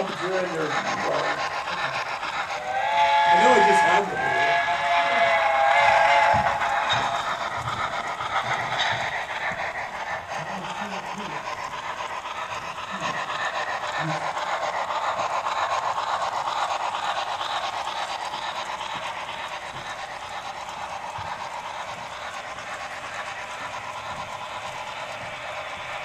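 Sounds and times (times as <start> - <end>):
model train running on track: 0.0 - 26.0.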